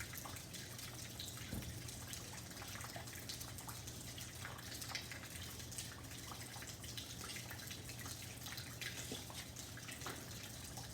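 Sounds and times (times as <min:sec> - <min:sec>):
rain dripping: 0:00.0 - 0:10.9.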